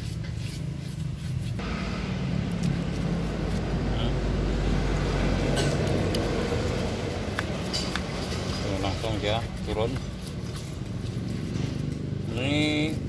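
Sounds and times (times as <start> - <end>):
brush scrubbing wet metal: 0.0 - 13.0
steady low hum: 0.0 - 13.0.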